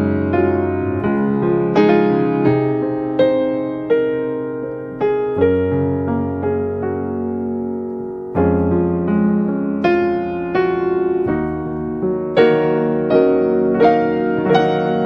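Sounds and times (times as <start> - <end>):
slow piano chords and notes: 0.0 - 15.0.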